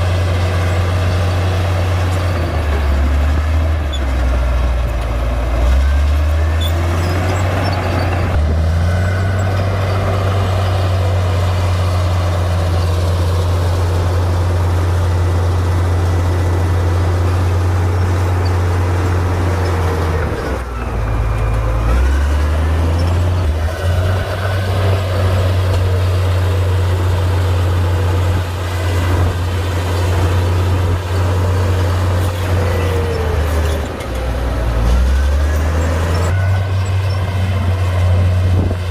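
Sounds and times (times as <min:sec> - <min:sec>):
bulldozer diesel engine drone: 0:00.0 - 0:38.9.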